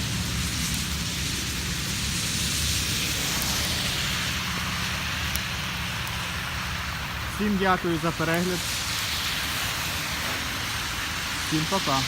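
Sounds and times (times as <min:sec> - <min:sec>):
hail falling: 0:00.0 - 0:12.0.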